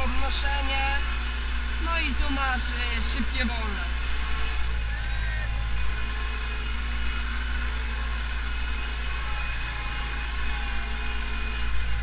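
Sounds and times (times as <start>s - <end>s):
tractor diesel engine drone: 0.0s - 12.0s.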